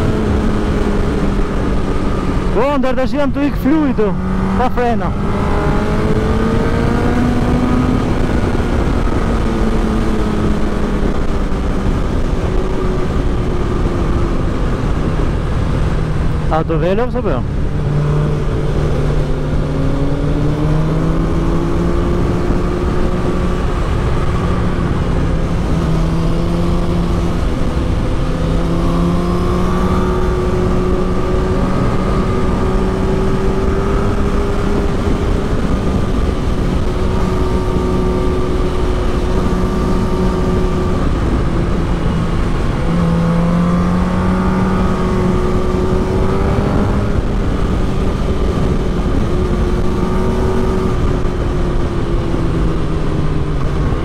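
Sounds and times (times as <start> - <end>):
motorcycle engine: 0.0 - 54.0
wind on microphone: 3.9 - 16.5, 17.4 - 54.0.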